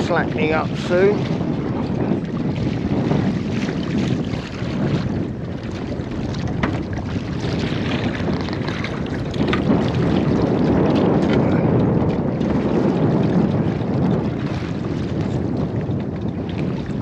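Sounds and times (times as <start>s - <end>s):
water sloshing against boat: 0.0s - 17.0s
wind buffeting microphone: 0.0s - 17.0s.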